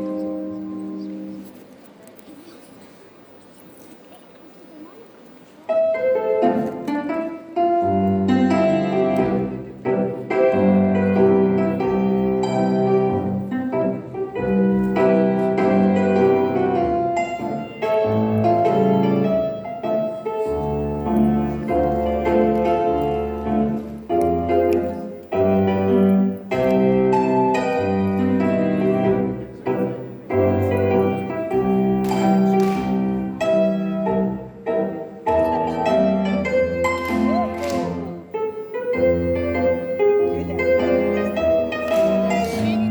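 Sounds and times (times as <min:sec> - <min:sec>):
piano music: 0:00.0 - 0:01.8, 0:05.7 - 0:42.9.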